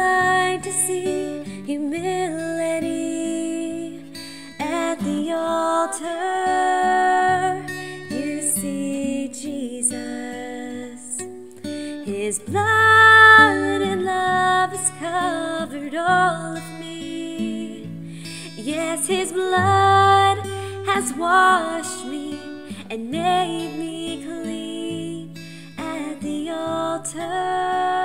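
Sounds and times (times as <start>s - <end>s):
acoustic guitar: 0.0s - 28.0s
woman singing: 0.0s - 28.0s.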